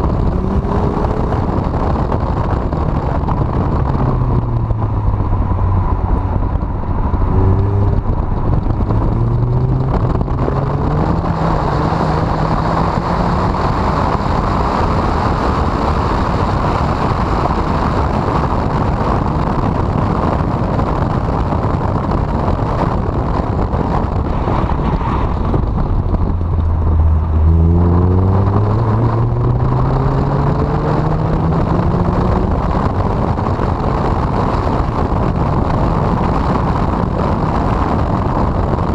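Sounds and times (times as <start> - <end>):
car engine accelerating: 0.0 - 38.9
wind noise on microphone: 0.0 - 38.9.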